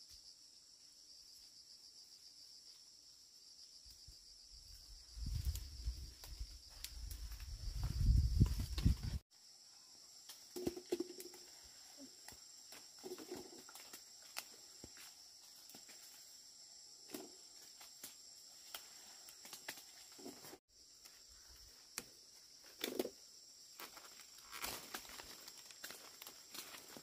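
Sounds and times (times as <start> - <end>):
insect chorus chirring: 0.0 - 27.0.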